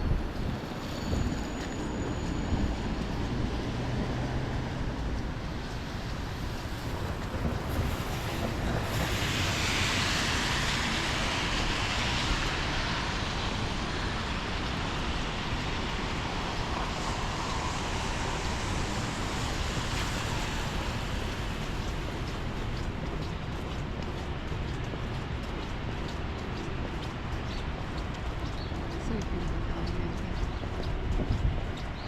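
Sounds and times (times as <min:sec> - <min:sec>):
low traffic rumble: 0:00.0 - 0:32.0
tyres swishing on wet pavement: 0:00.2 - 0:31.2.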